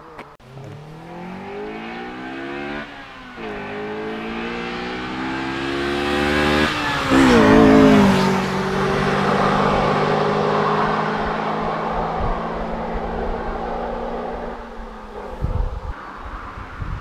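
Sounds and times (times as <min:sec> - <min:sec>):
car engine accelerating through gears: 0:00.2 - 0:16.9.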